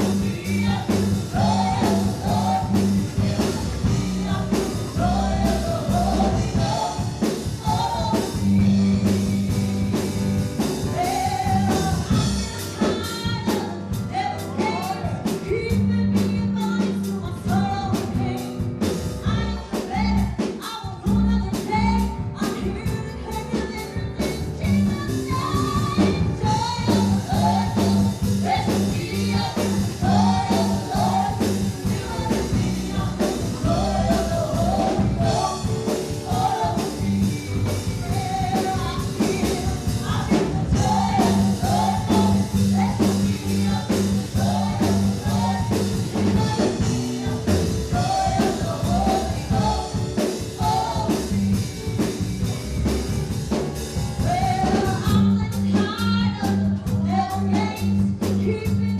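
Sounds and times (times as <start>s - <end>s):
gospel band playing: 0.0s - 58.9s.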